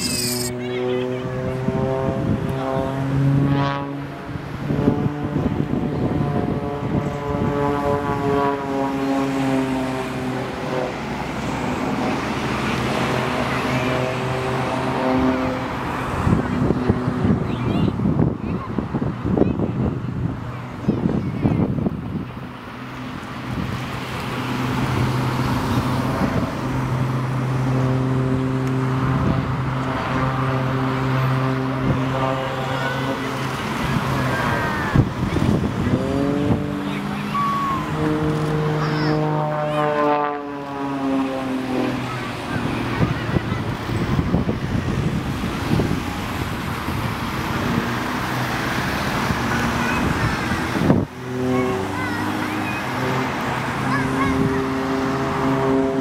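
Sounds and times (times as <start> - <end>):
broad rushing noise: 0.0 - 56.0
propeller plane engine droning: 0.0 - 56.0.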